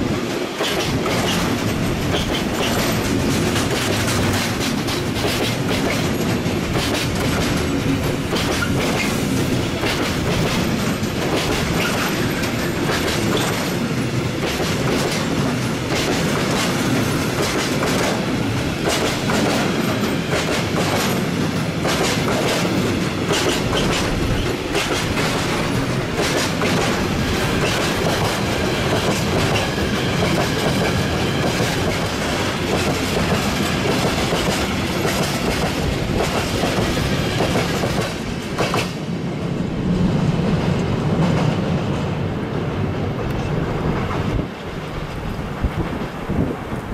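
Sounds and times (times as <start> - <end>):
freight train rumbling past: 0.0 - 46.9.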